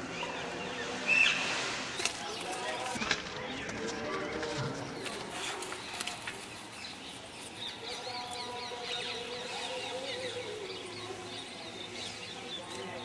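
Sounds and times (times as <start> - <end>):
small birds chirping: 0.0 - 13.0
steady outdoor background: 0.0 - 13.0.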